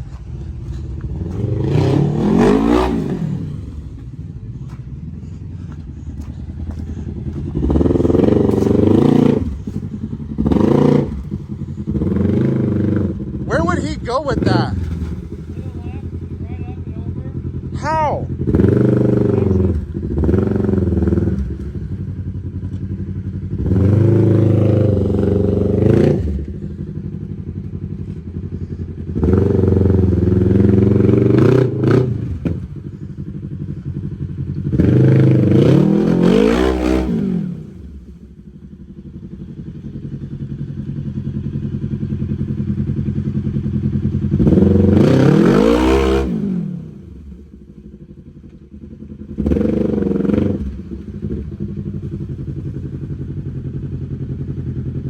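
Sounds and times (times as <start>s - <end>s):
utility vehicle engine revving: 0.0s - 54.8s.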